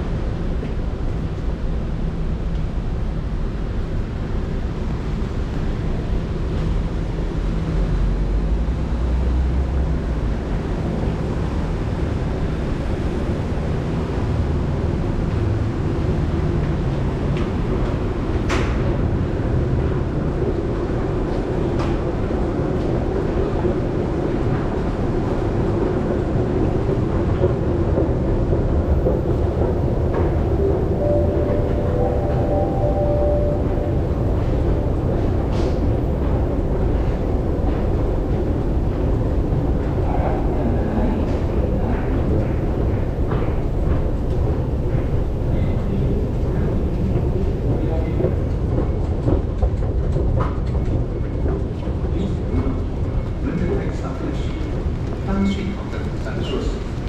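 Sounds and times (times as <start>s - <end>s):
station entrance hum: 0.0s - 57.0s.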